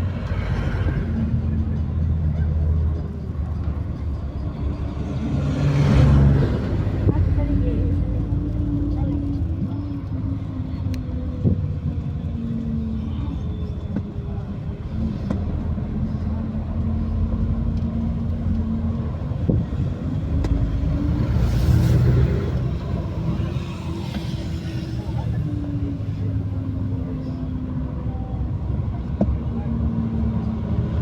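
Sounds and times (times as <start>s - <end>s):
bus diesel engine rumble: 0.0s - 31.0s.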